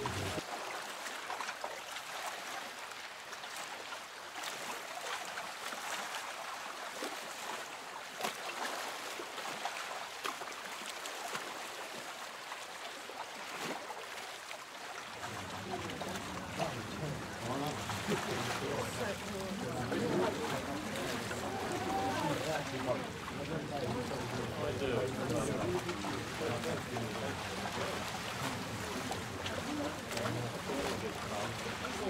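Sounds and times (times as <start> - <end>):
small waves on sandy beach: 0.0 - 32.0.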